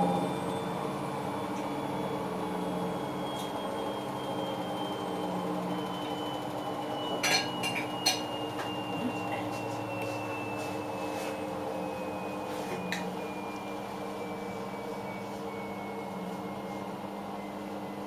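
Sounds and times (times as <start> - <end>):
high whine falling in pitch: 0.0 - 18.0
washing machine motor hum: 0.0 - 18.0.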